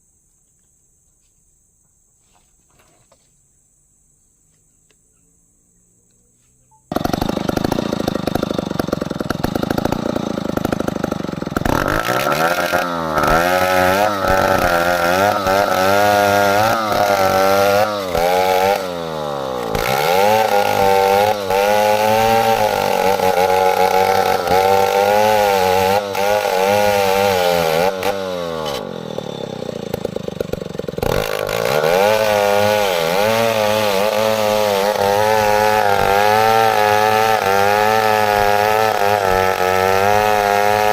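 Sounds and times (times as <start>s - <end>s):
chainsaw engine under load: 6.8s - 40.9s.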